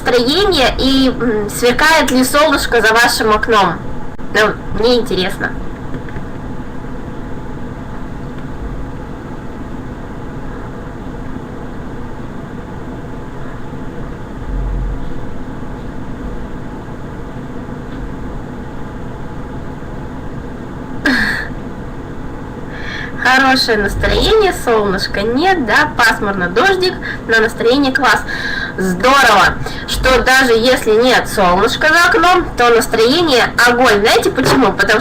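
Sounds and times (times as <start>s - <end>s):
background hum and hiss: 0.0s - 35.0s.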